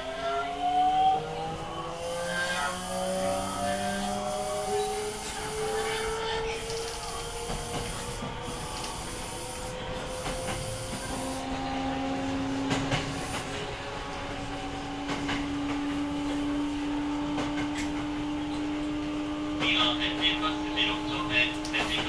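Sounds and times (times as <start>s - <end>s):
rail running noise: 0.0s - 22.0s
train inverter whining: 0.0s - 22.0s.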